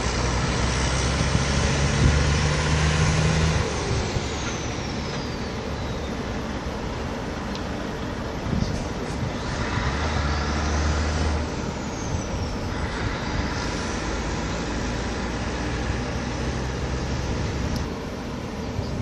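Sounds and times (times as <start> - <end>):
heavy truck engines: 0.0 - 19.0
low engine drone: 0.0 - 19.0
port machinery rumble: 0.0 - 19.0.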